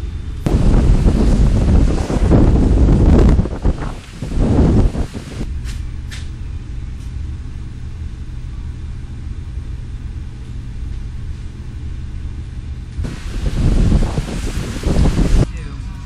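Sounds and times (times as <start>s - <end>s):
low rumble of ship machinery: 0.0s - 16.0s.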